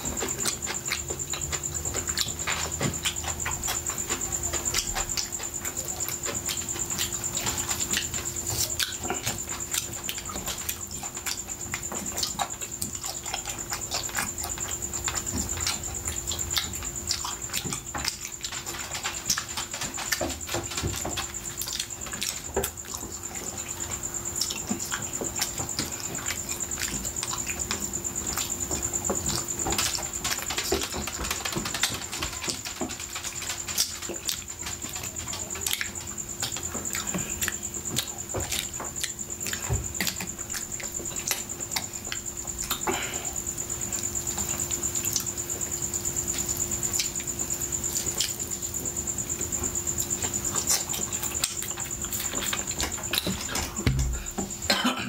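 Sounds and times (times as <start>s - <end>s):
wet chewing: 0.0s - 54.7s.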